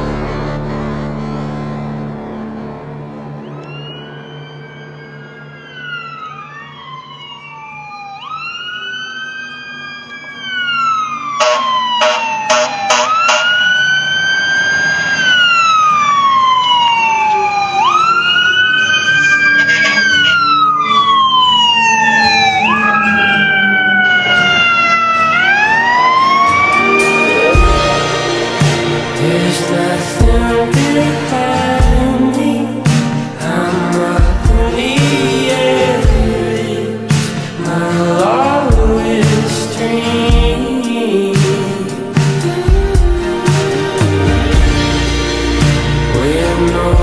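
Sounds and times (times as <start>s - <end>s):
fire engine sirens wailing: 0.0s - 47.0s.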